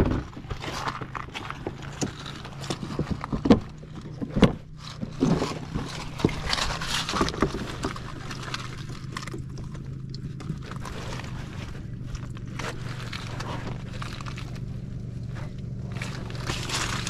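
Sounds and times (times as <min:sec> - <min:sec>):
steady low hum: 0:00.0 - 0:17.0
footsteps on wet gravel: 0:00.1 - 0:17.0.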